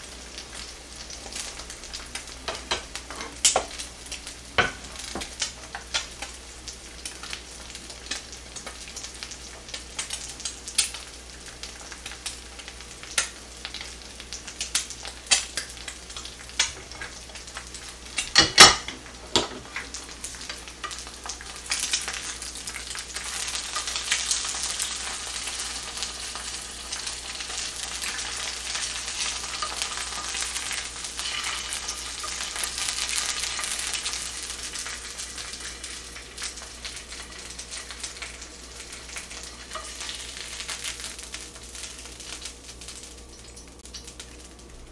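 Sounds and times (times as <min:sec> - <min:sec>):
eggs sizzling in pan: 0:00.0 - 0:44.9.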